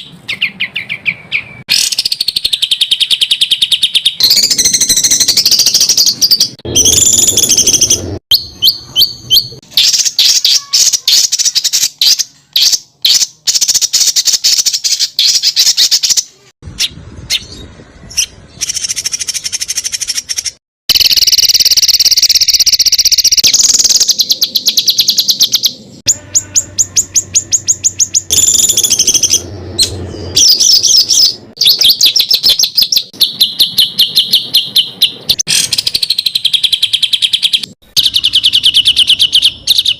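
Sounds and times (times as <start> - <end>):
songbird trills and sharp notes: 0.0 - 39.9.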